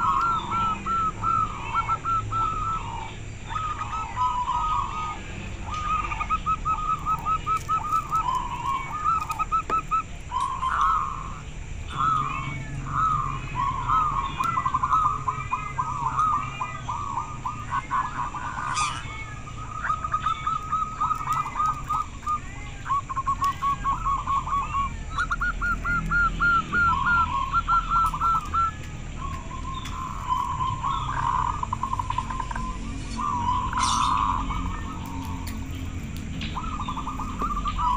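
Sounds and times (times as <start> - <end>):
doves cooing: 0.0 - 37.9
high rising chirp: 0.0 - 37.9.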